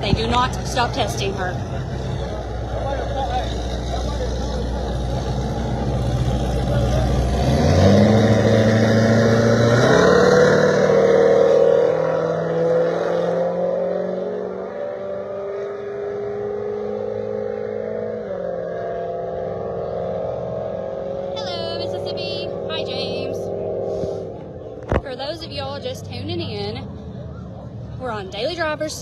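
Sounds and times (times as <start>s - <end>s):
car engines accelerating hard: 0.0s - 29.0s.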